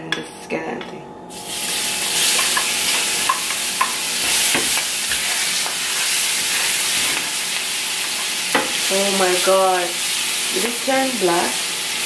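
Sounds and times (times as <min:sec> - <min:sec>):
food sizzling in hot oil: 0:01.3 - 0:12.0.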